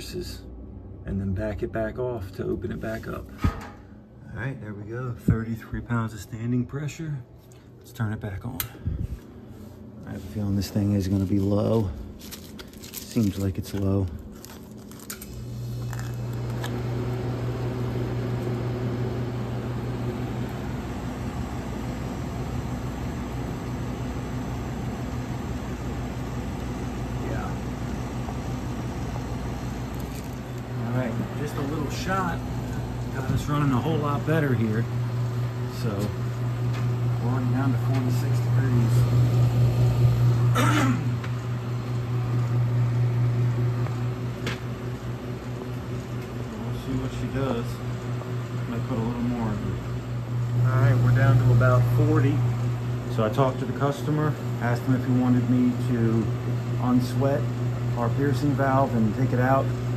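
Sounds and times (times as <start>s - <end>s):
refrigerator compressor hum: 0.0s - 59.9s.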